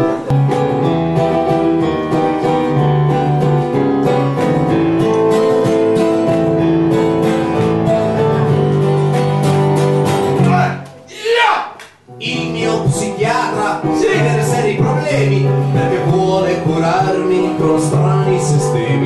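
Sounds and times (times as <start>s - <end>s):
acoustic guitar strumming: 0.0s - 11.1s, 12.0s - 19.0s.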